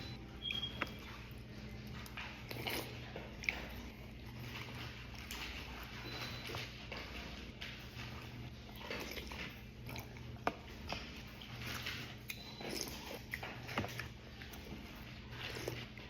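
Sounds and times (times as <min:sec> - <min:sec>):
chewing raw vegetables: 0:00.0 - 0:16.0.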